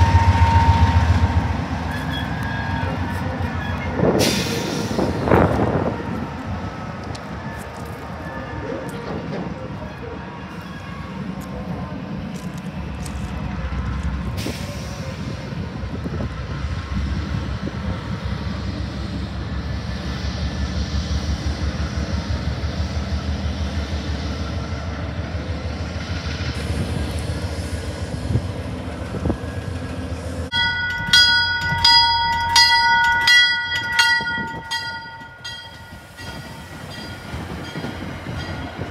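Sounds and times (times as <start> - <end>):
diesel locomotive engine rumbling: 0.0 - 38.9
train rolling: 0.0 - 38.9.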